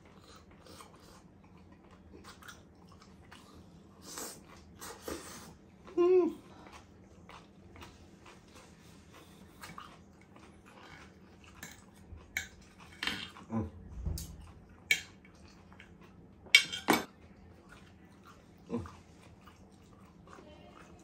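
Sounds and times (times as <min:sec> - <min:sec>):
mouth chewing: 0:00.0 - 0:16.5, 0:17.2 - 0:21.0.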